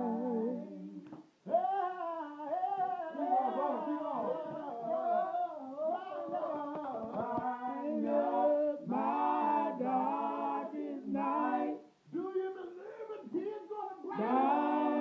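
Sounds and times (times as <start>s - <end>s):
vocal group singing a cappella: 0.0s - 15.0s.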